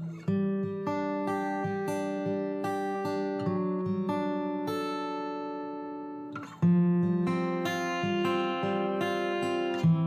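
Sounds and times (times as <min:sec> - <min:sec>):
acoustic guitar playing chords: 0:00.0 - 0:10.0.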